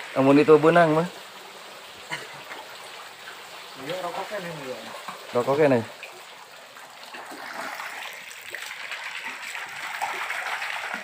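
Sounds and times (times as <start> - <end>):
water splashing into pond: 0.0 - 11.0.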